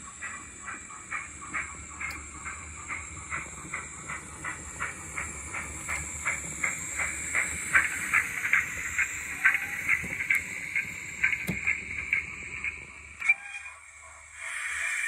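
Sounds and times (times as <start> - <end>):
model steam locomotive chuffing: 0.0 - 15.0
steady high hiss: 0.0 - 15.0.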